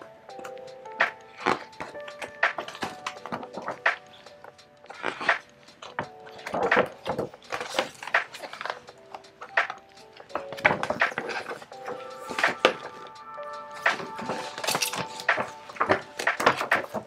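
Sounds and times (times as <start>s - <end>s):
soft background music: 0.0s - 17.0s
calendar pages rustling and flapping: 1.3s - 9.8s, 10.4s - 13.0s, 13.8s - 17.0s.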